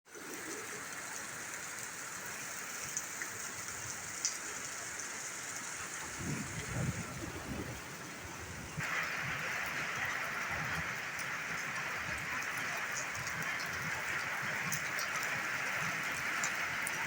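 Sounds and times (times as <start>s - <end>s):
rain falling: 0.1s - 17.0s.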